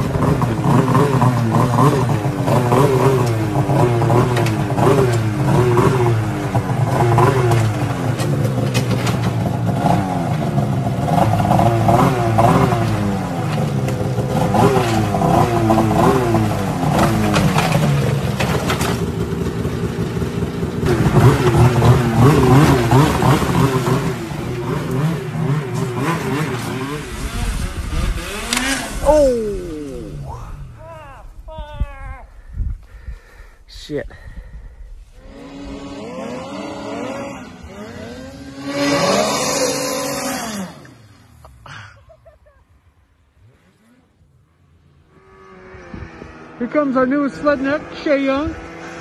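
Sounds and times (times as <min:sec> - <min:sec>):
snowmobile engine revving: 0:00.0 - 0:32.4, 0:35.0 - 0:49.0.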